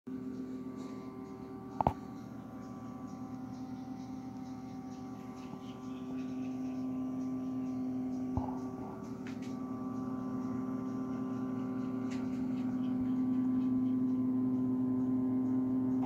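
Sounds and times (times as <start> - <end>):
steady electrical hum: 0.1 - 16.0.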